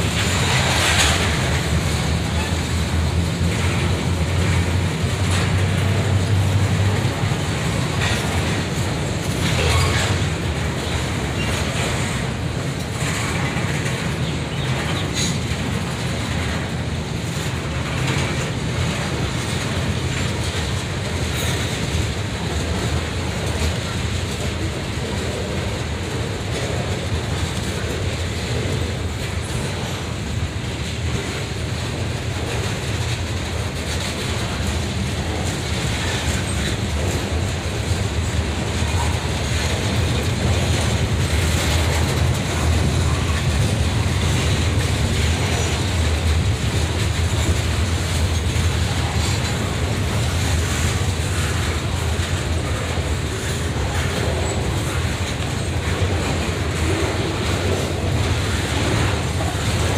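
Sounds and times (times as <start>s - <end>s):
train wheels rumbling on rail: 0.0s - 59.9s
wheels and couplers clanking: 0.0s - 59.9s.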